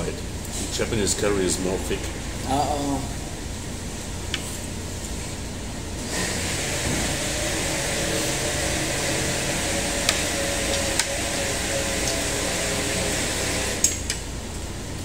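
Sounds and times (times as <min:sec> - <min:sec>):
air conditioning noise: 0:00.0 - 0:15.0.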